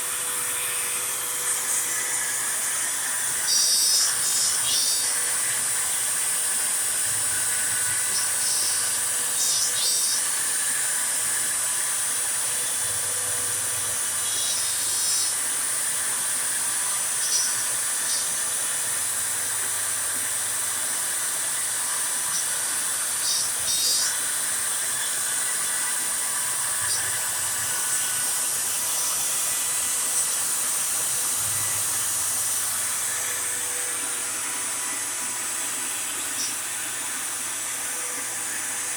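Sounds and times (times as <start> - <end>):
router spindle and vacuum hiss: 0.0 - 38.9.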